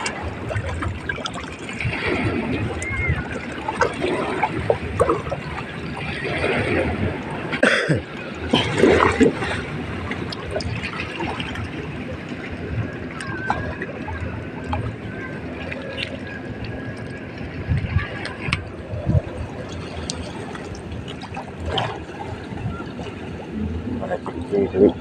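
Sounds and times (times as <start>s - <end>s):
water sloshing: 0.0s - 25.0s
water trickling and lapping: 0.0s - 25.0s.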